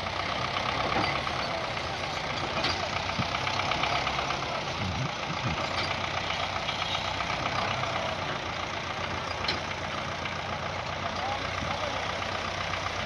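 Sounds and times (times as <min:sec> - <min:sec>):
tractor diesel engine clattering: 0:00.0 - 0:13.0.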